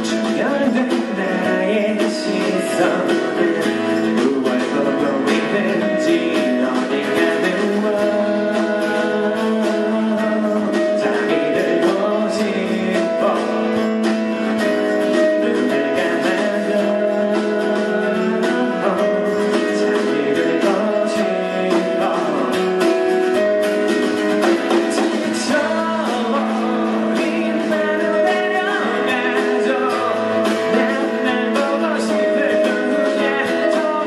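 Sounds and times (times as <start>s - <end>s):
man singing into a microphone: 0.0s - 23.9s, 24.8s - 34.0s
acoustic guitar strumming: 0.0s - 34.0s.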